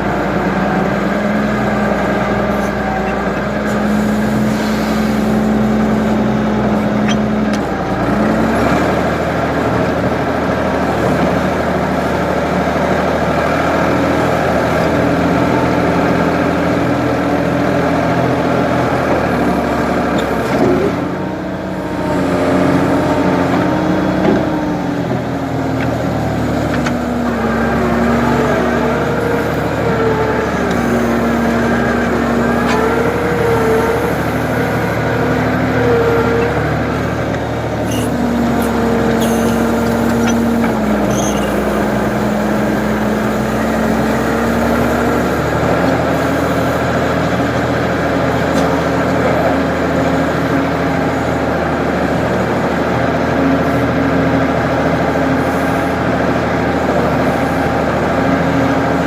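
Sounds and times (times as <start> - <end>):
backhoe diesel engine revving: 0.0 - 59.0.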